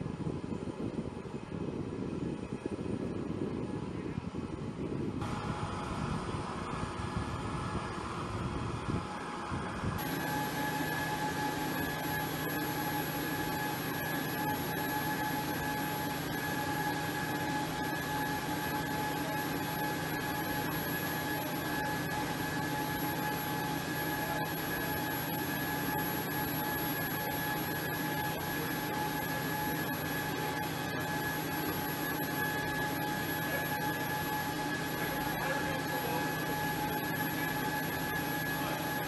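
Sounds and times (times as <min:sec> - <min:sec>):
gas turbine whine: 0:00.0 - 0:39.0.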